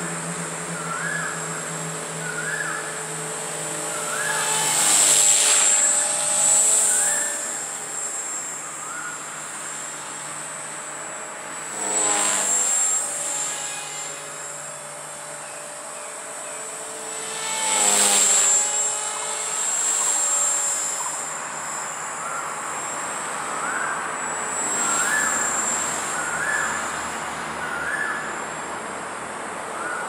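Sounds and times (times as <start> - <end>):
rc helicopter rotor whine: 0.0 - 30.0.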